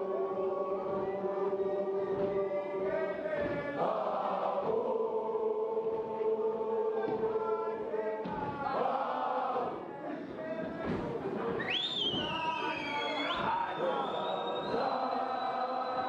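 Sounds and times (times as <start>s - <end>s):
boys choir chanting: 0.0s - 16.0s.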